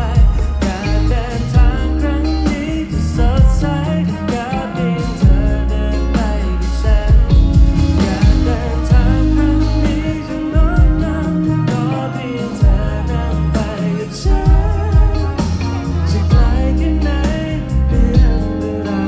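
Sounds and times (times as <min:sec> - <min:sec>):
live pop band with heavy bass: 0:00.0 - 0:19.0
man singing into microphone: 0:00.0 - 0:19.0.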